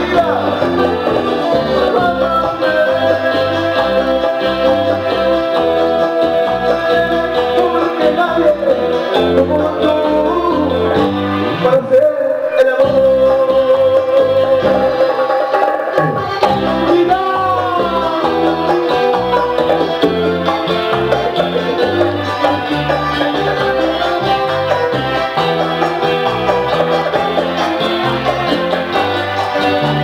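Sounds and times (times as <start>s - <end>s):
stepping bass line: 0.0s - 12.0s, 12.8s - 30.0s
man singing through pa: 0.0s - 26.2s
live band playing: 0.0s - 30.0s.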